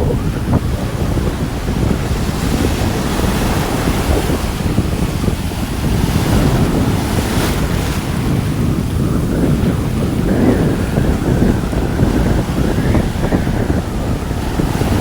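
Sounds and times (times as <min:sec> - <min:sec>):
heavy waves breaking: 0:00.0 - 0:15.0
wind buffeting microphone: 0:00.0 - 0:15.0.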